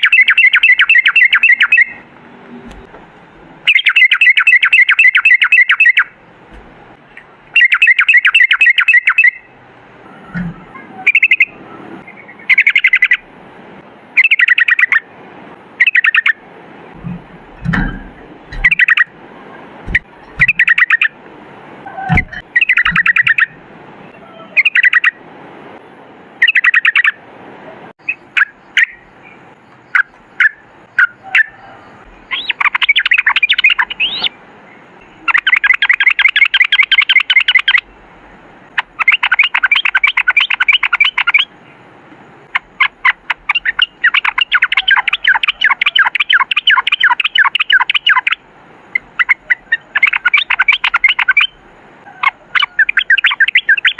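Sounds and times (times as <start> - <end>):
bulbul singing: 0.0 - 2.1, 3.6 - 13.3, 14.1 - 15.1, 15.7 - 21.2, 21.8 - 25.2, 26.4 - 27.2, 28.0 - 53.9.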